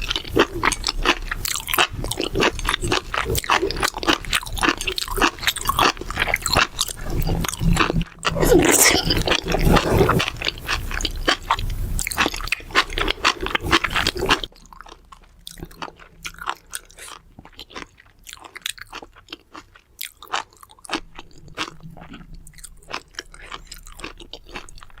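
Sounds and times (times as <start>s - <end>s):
crunchy chewing: 0.0s - 25.0s.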